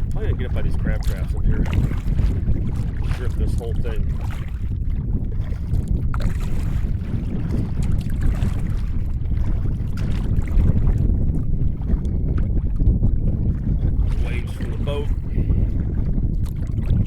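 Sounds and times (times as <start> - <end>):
water lapping against hull: 0.0 - 17.0
wind rumbling on microphone: 0.0 - 17.0.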